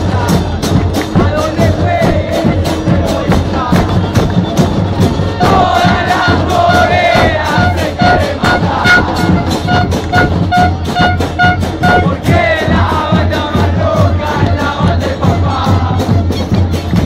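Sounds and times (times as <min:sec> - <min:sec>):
crowd chanting: 0:00.0 - 0:17.0
fast steady drumbeat: 0:00.0 - 0:17.0.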